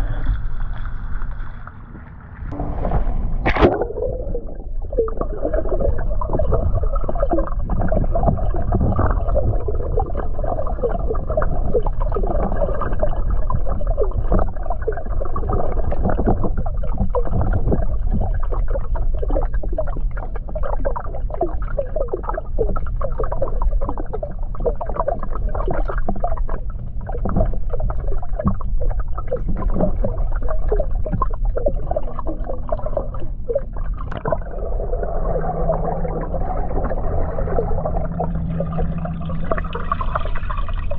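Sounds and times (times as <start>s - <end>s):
underwater rumble: 0.0s - 40.9s
bubbling pops: 3.4s - 40.9s.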